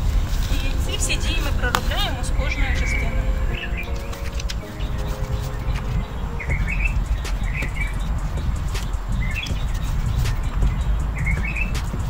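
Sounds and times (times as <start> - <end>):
songbirds chirping: 0.0 - 12.0
steady low rumble: 0.0 - 12.0.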